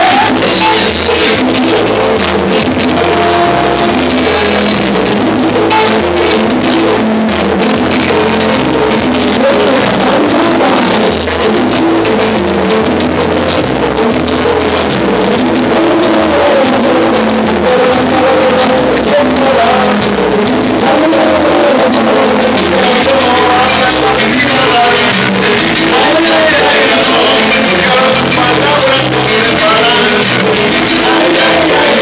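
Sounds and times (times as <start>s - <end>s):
person singing: 0.0s - 12.8s, 15.3s - 32.0s
salsa band playing: 0.0s - 32.0s
stepping bass line: 0.0s - 32.0s.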